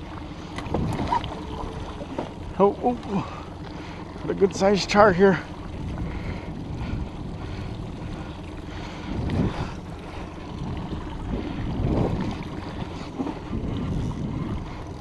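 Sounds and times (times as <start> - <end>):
choppy water against boat: 0.0 - 15.0
wind rumble on microphone: 0.0 - 15.0.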